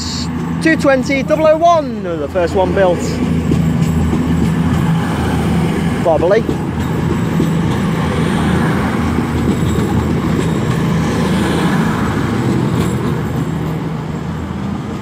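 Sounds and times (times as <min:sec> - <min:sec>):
train diesel engines droning: 0:00.0 - 0:15.0
wheel and rail rumble: 0:00.0 - 0:15.0.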